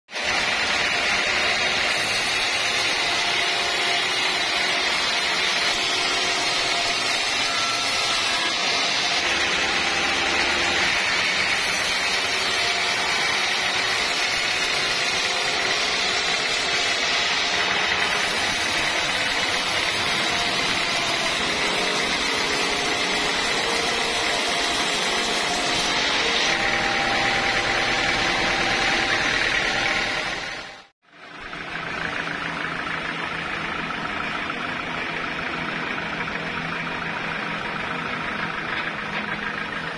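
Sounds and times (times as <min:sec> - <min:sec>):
band sawmill running: 0:00.1 - 0:39.9.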